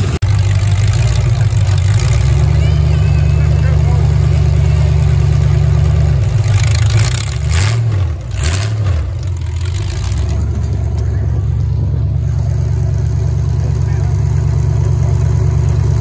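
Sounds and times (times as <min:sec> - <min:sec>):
car engine rumbling and revving: 0:00.0 - 0:16.0.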